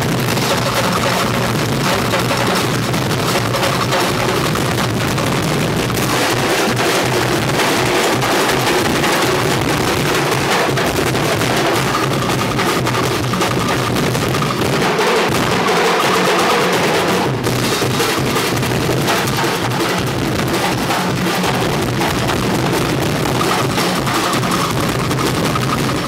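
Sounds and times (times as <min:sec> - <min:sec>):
drums struck with sticks: 0:00.0 - 0:26.0.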